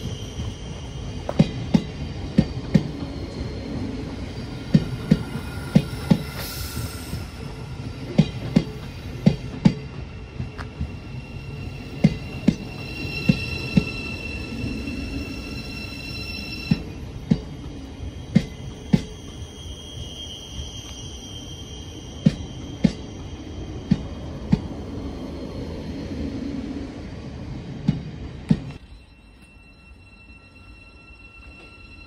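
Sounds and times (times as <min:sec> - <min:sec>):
train rolling rumble: 0:00.0 - 0:32.0.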